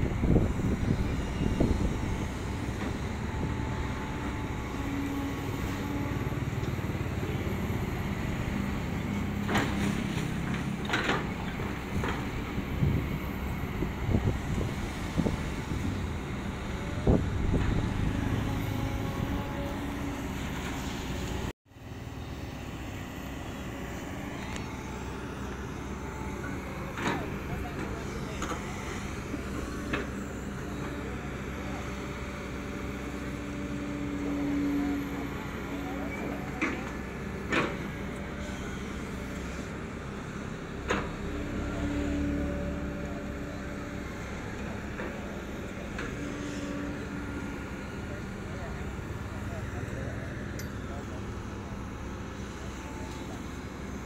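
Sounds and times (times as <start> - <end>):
excavator diesel engine and hydraulics: 0.0 - 54.0.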